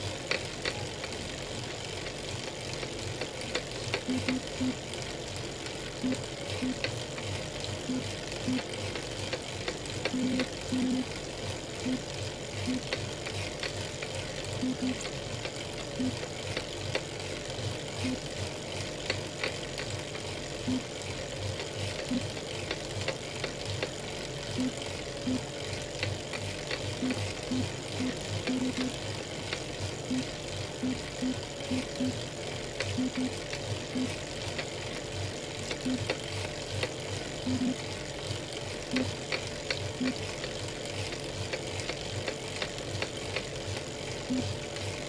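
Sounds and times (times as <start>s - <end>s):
bike trainer whining: 0.0s - 45.0s.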